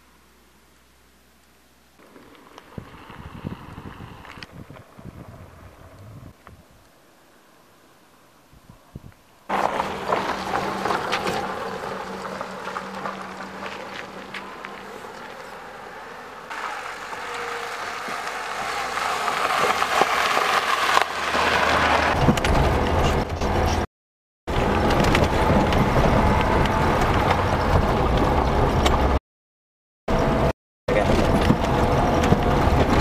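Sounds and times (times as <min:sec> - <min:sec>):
car tyre road rumble: 0:00.0 - 0:23.9, 0:24.5 - 0:29.2, 0:30.1 - 0:33.0.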